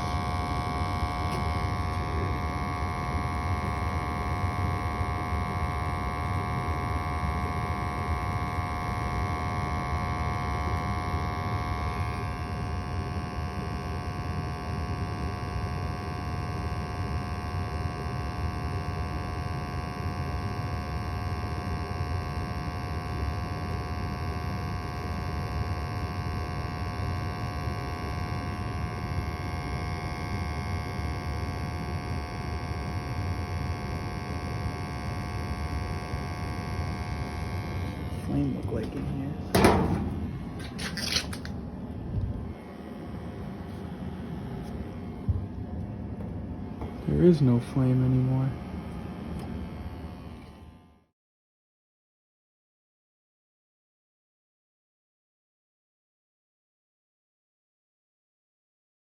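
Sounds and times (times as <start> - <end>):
fan motors whining: 0.0 - 51.1
furnace motor hum and air rush: 0.0 - 51.1.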